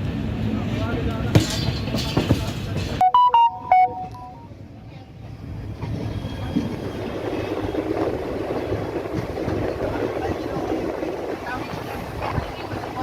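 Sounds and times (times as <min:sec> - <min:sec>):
passenger train rumbling: 0:00.0 - 0:13.0.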